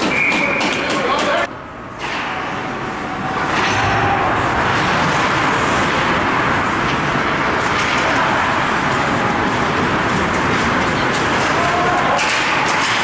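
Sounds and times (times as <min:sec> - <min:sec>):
ice rink noise during play: 0:00.0 - 0:13.0.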